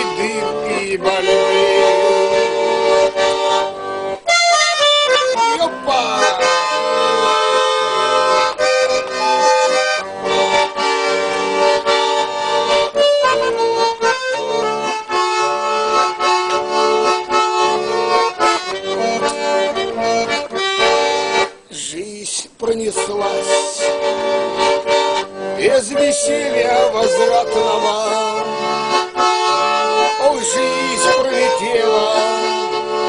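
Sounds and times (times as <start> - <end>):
accordion playing folk melody: 0.0 - 33.0.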